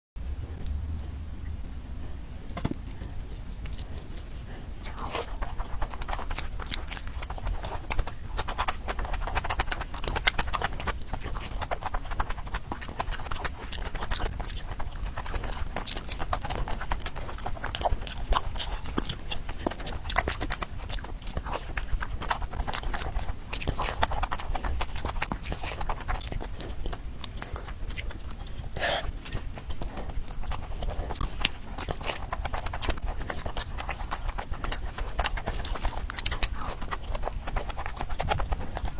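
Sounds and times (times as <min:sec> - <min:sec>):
person chewing crispy food: 0:02.8 - 0:38.9.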